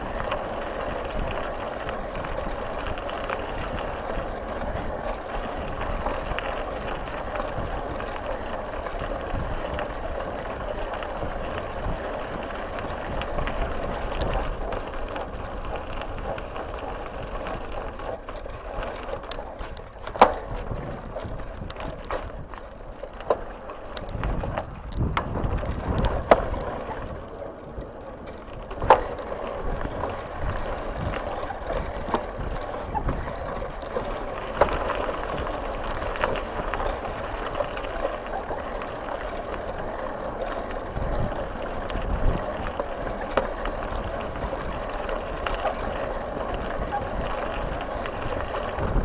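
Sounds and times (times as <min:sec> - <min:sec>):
tyres rolling over gravel: 0:00.0 - 0:49.0.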